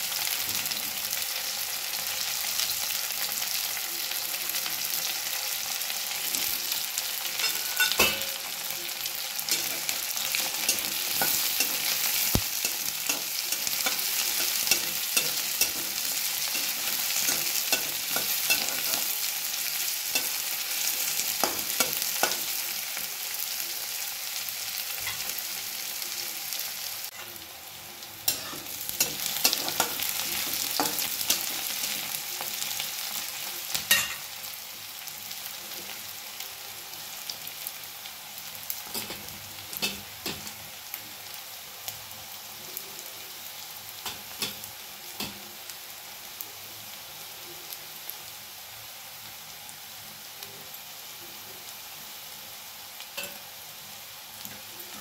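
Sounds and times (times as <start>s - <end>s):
onions sizzling in hot oil: 0.0s - 55.0s.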